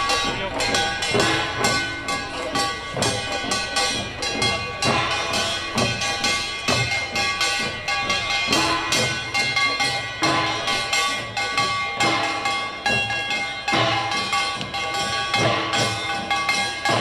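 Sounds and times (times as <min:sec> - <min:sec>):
drums struck in brisk rhythm: 0:00.0 - 0:17.0
metallic ringing: 0:00.0 - 0:17.0.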